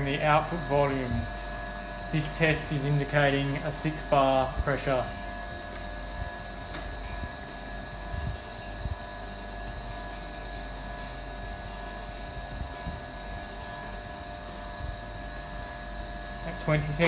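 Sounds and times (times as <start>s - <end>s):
espresso machine pump humming: 0.0s - 17.0s.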